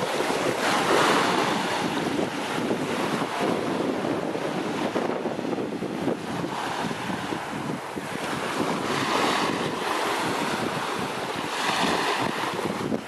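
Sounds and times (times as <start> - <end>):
surf washing onto beach: 0.0 - 13.0
wind on microphone: 0.0 - 13.0.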